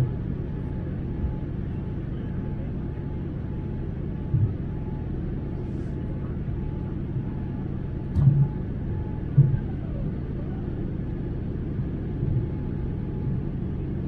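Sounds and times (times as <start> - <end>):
airplane cabin roar: 0.0 - 14.0.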